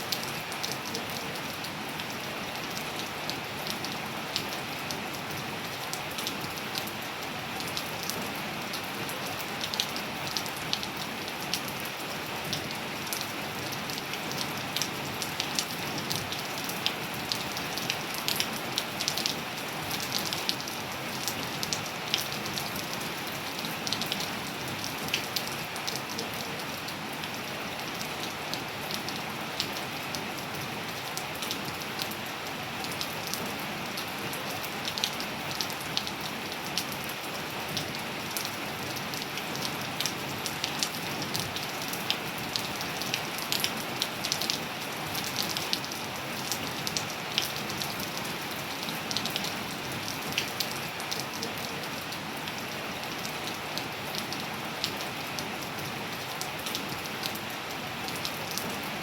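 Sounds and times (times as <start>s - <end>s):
rain pattering on surface: 0.0s - 59.0s.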